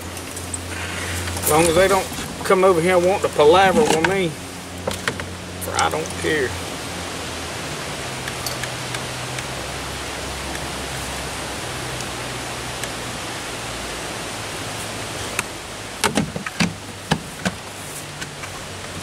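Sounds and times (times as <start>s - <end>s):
faint low engine hum: 0.0s - 19.0s.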